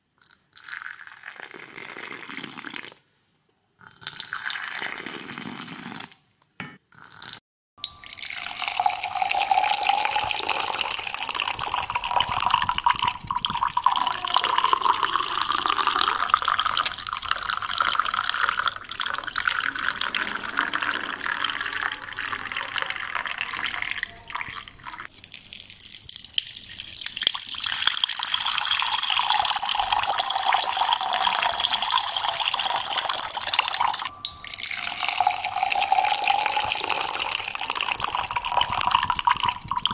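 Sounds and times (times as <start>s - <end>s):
liquid pouring into a cup: 0.2s - 3.0s, 7.8s - 39.9s.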